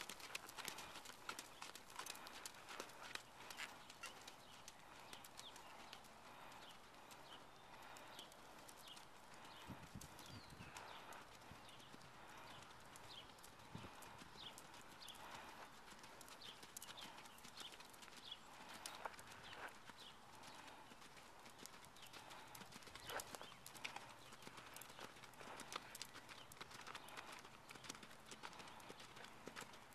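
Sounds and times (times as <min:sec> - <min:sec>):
faint hoofbeats on sand: 0:00.0 - 0:29.9.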